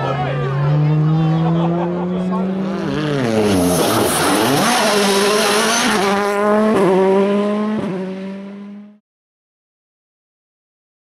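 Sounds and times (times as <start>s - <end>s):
rally car engine accelerating: 0.0s - 9.0s.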